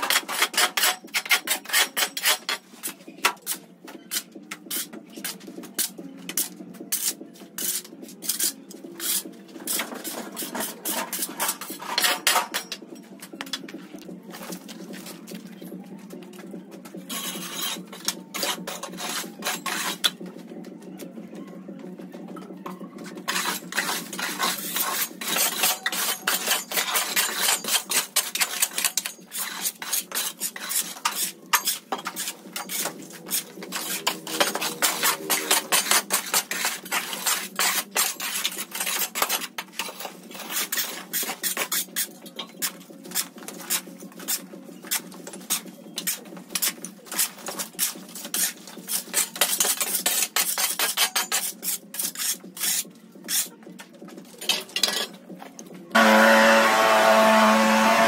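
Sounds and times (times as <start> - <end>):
sweeping and scraping on concrete: 0.0 - 12.8, 16.9 - 20.2, 23.2 - 53.6.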